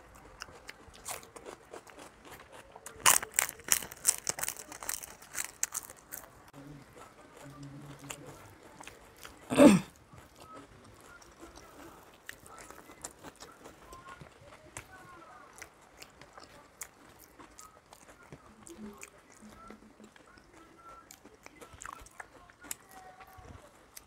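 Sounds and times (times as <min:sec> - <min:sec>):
crunching crisp papad: 0:00.0 - 0:24.0
soft chewing: 0:00.0 - 0:24.0.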